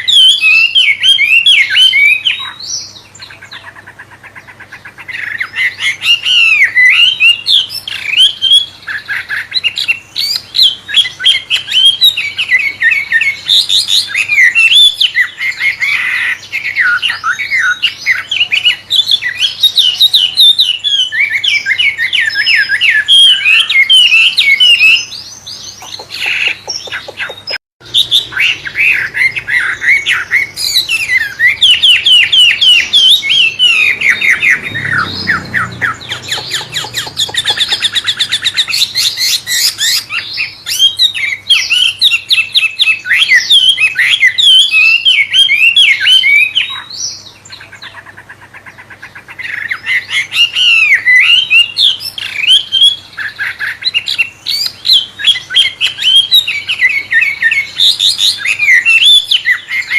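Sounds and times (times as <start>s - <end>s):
bird singing chirps and whistles: 0.0s - 59.9s.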